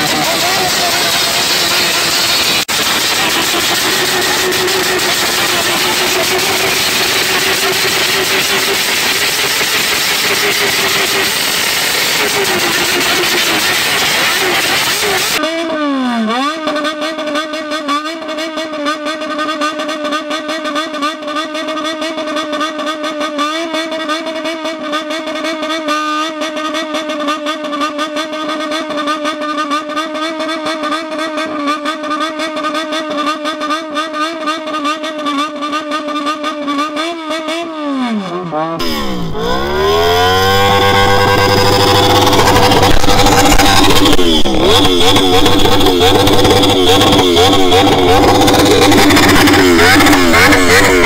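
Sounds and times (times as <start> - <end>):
motorcycle engine revving: 0.0 - 51.0
second motorcycle engine revving: 0.0 - 51.0.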